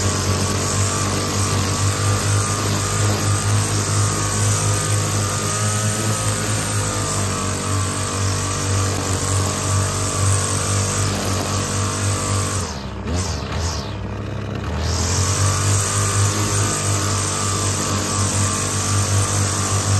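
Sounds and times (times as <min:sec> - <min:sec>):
string trimmer running: 0:00.0 - 0:19.9.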